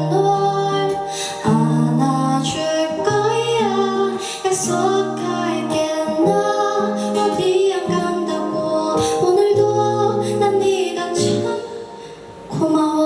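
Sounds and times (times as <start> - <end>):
live band playing a ballad: 0.0 - 13.0
woman singing long held notes: 0.0 - 13.0.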